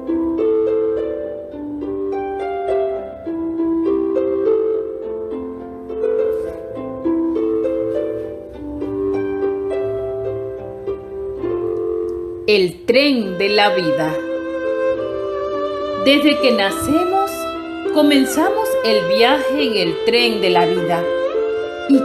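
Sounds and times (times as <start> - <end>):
slow sustained melody: 0.0 - 22.0.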